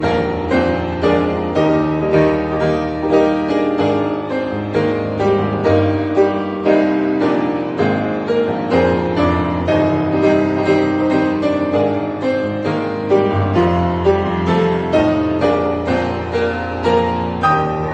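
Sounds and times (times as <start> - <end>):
piano music: 0.0 - 17.9.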